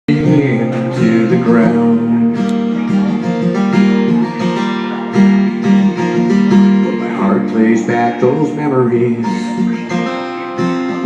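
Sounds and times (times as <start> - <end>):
acoustic guitar strumming: 0.1 - 11.0.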